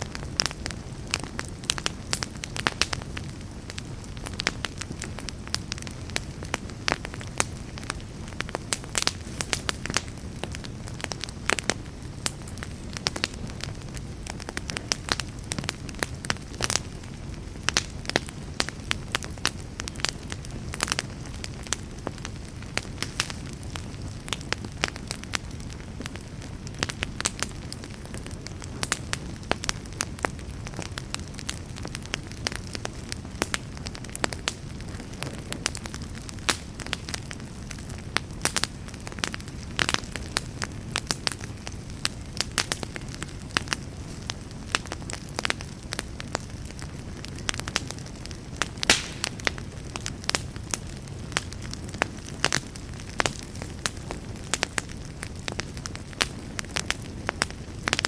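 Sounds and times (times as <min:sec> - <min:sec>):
fire crackling and popping: 0:00.0 - 0:58.0
low rush of flame: 0:00.0 - 0:58.0.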